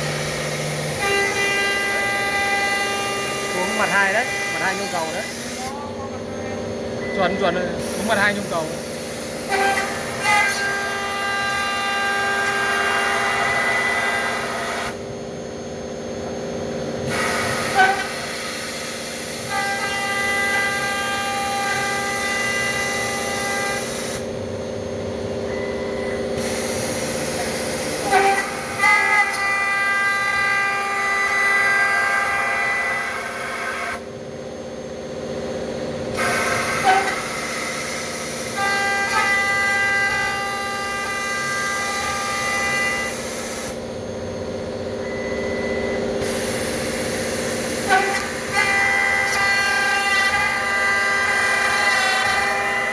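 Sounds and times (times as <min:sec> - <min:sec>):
milling machine whine and hiss: 0:00.0 - 0:52.9.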